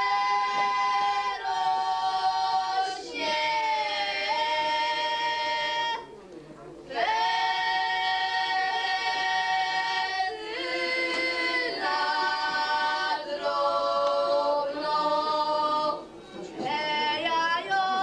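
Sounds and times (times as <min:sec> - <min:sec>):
girls singing unaccompanied: 0:00.0 - 0:06.1, 0:06.8 - 0:18.0.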